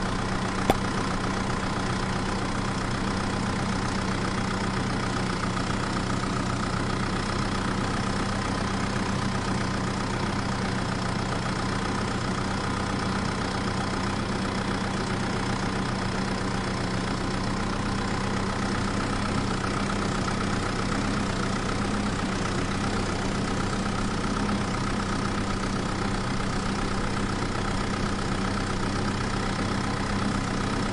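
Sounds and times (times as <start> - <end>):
small engine humming: 0.0 - 30.9.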